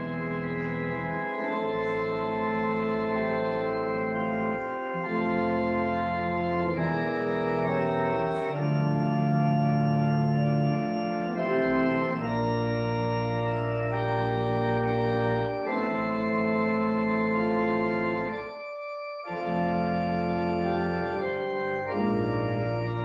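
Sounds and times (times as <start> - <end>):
organ playing sustained chords: 0.0 - 23.0.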